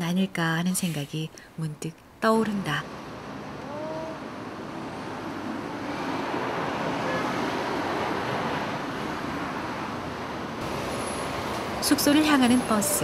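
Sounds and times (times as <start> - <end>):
road traffic: 2.2 - 13.0.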